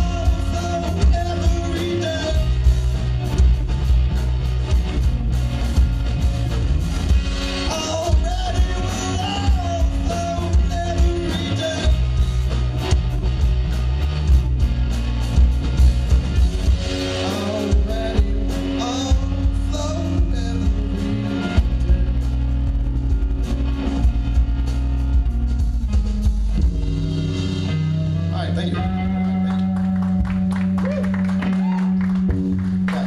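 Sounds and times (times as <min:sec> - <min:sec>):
drum kit: 0:00.0 - 0:33.0
electric bass: 0:00.0 - 0:33.0
electric guitar: 0:00.0 - 0:33.0.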